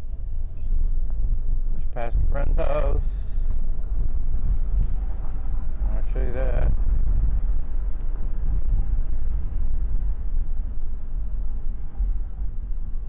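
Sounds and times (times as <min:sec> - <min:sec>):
road and engine rumble inside vehicle: 0:00.0 - 0:13.0.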